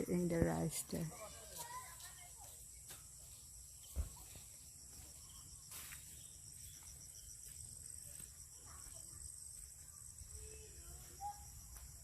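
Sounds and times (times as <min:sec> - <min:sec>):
insects chirring: 0:00.0 - 0:12.0
insect pulsing chirp: 0:02.1 - 0:12.0.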